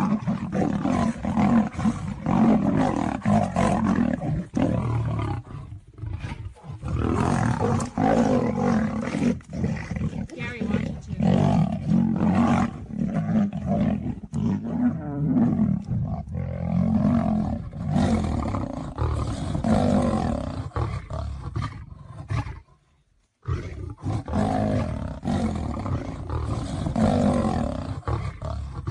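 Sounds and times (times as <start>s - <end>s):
lion roaring and growling: 0.0s - 22.7s, 23.4s - 28.9s.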